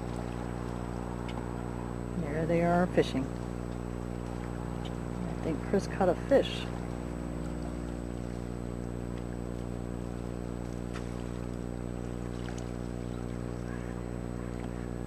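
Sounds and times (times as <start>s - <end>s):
boat motor idling: 0.0s - 15.0s.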